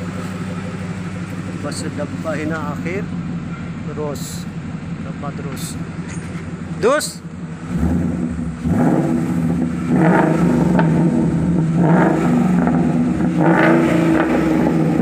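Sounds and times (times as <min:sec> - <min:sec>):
car engine revving over idle: 0:00.0 - 0:15.0.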